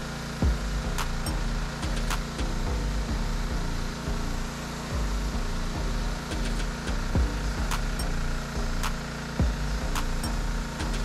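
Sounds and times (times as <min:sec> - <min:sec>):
pressure washer engine hum: 0:00.0 - 0:11.0.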